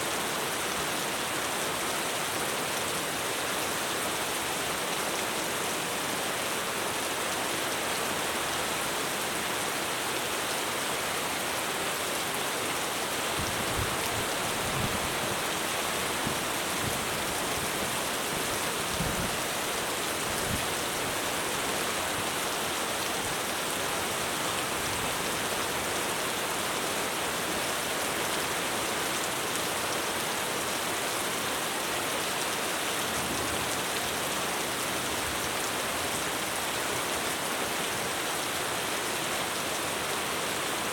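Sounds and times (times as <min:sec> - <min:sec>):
heavy rain drumming on a roof: 0:00.0 - 0:40.9.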